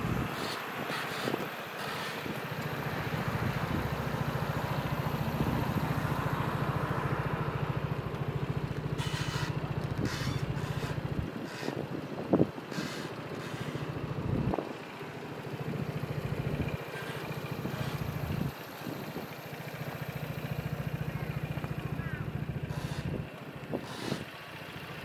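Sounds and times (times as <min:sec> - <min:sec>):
scooter engine idling: 0:00.0 - 0:25.0.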